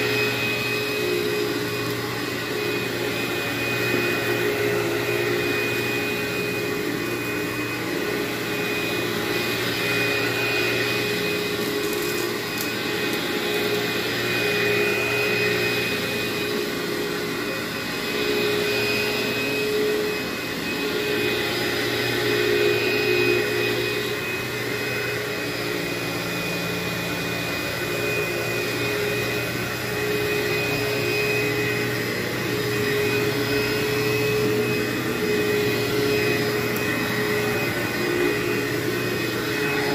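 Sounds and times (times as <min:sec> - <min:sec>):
vacuum cleaner whine and hum: 0:00.0 - 0:39.9.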